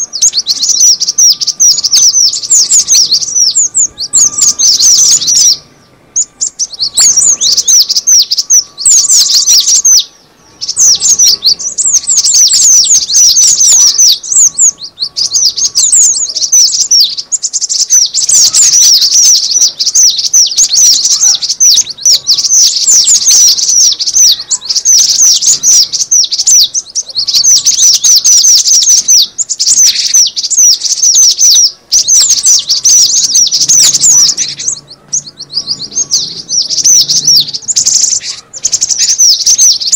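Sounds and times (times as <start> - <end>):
bird quick high chirps: 0.0 - 39.9.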